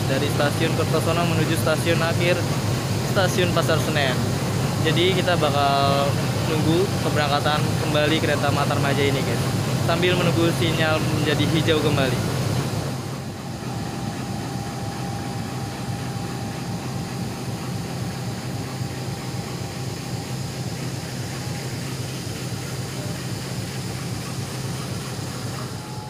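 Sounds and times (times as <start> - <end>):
faint steady whine: 0.0 - 26.0
train engines idling: 0.0 - 26.0.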